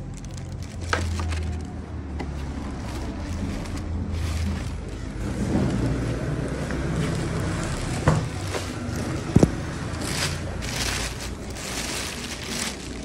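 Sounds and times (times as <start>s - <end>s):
paper rustling: 0.0s - 13.0s
plastic wrapping crinkling: 0.0s - 13.0s.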